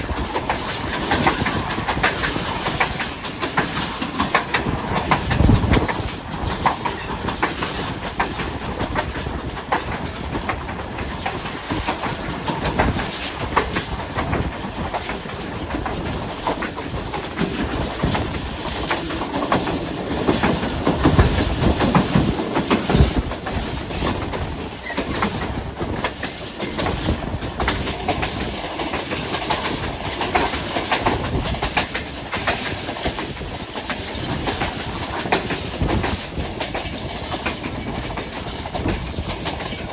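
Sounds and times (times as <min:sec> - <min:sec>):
train rumble: 0:00.0 - 0:39.9
train wheels clicking on rail joints: 0:00.0 - 0:39.9.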